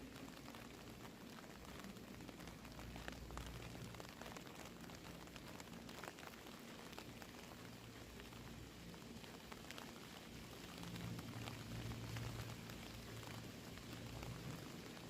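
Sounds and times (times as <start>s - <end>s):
rain falling: 0.0s - 15.0s
raindrops ticking close by: 0.0s - 15.0s.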